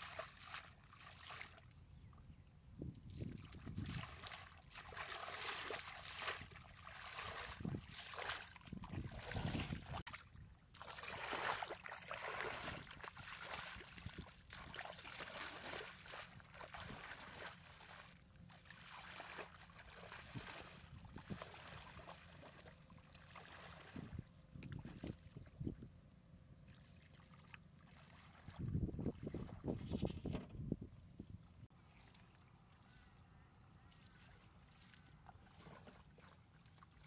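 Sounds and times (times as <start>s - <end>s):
bare feet wading through water: 0.0s - 2.2s, 3.1s - 25.8s, 26.6s - 30.5s, 31.6s - 37.0s.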